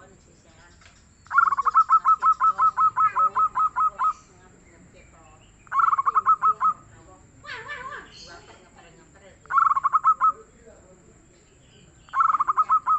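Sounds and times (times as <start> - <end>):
dove calling: 0.0 - 12.9.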